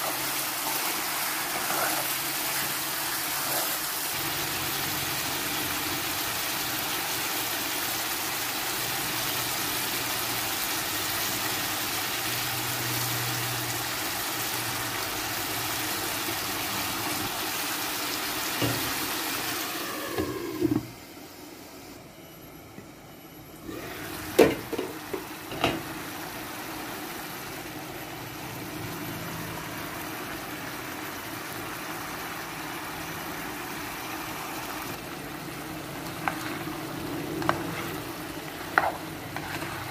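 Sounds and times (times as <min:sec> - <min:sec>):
chicken simmering in a pan: 0:00.0 - 0:20.8, 0:23.8 - 0:39.9.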